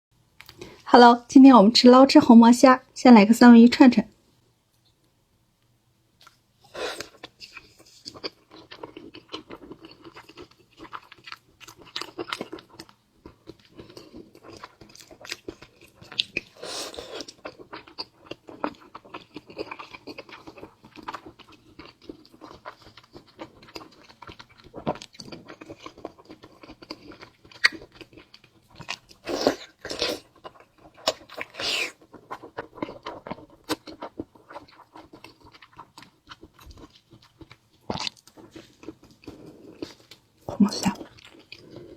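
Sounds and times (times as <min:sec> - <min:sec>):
person chewing with wet mouth sounds: 0:06.2 - 0:41.9.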